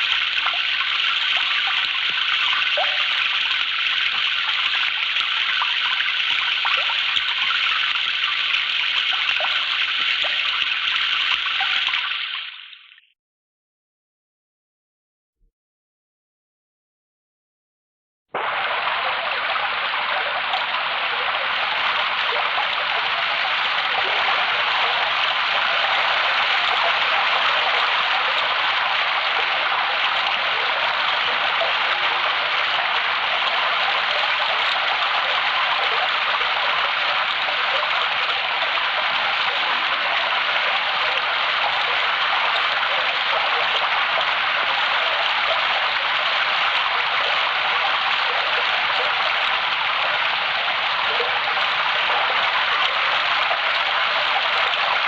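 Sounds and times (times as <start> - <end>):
rush of falling water: 0.0 - 12.5, 18.4 - 55.0.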